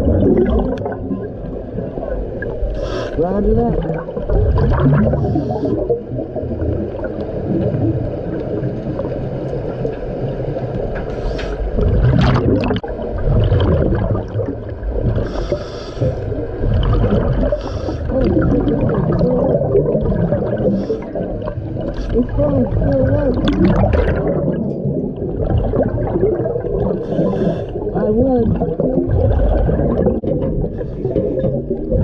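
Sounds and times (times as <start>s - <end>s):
air flowing in diving helmet: 0.0s - 3.3s, 3.9s - 32.0s
bubbles gurgling underwater: 0.0s - 11.1s, 11.7s - 32.0s.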